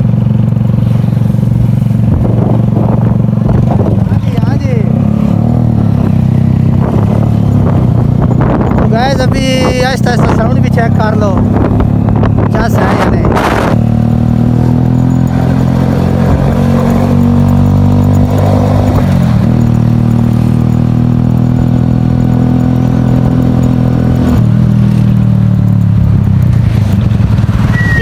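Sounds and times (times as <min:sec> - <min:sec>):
motorcycle engine loud exhaust: 0:00.0 - 0:28.0.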